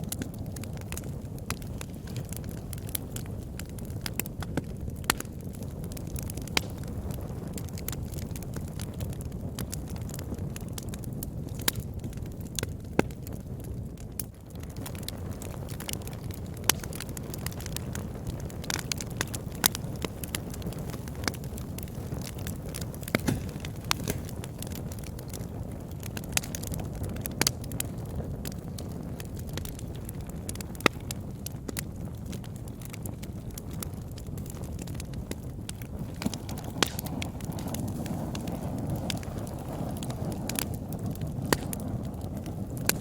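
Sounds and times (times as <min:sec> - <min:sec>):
fire crackling and popping: 0:00.0 - 0:43.0
low rumble of flames: 0:00.0 - 0:43.0.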